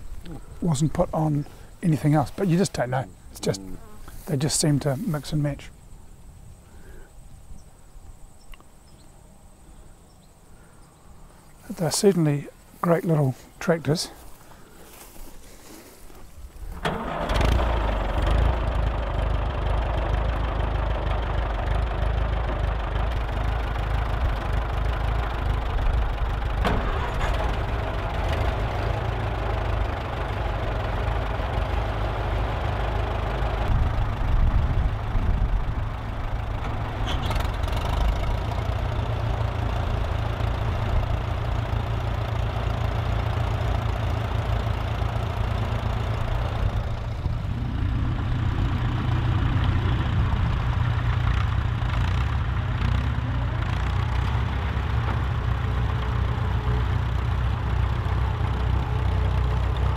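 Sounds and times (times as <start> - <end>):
tractor engines running at low revs: 0.0 - 7.1, 11.3 - 59.9.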